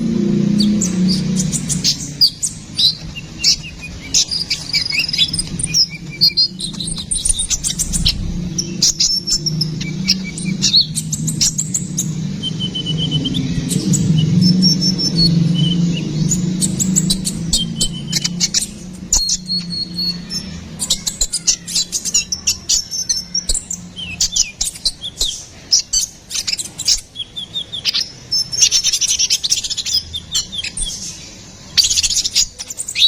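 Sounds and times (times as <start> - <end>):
steady low hum: 0.0 - 32.7
bird chirps and trills: 0.0 - 33.0.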